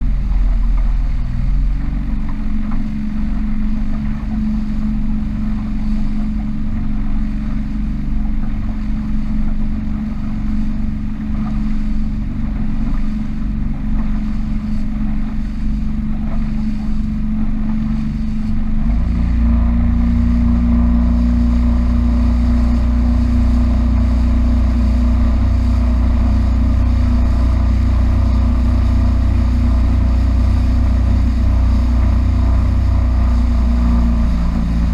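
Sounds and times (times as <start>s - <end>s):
heavy low rumble: 0.0s - 34.9s
powerboat engine running: 0.0s - 34.9s.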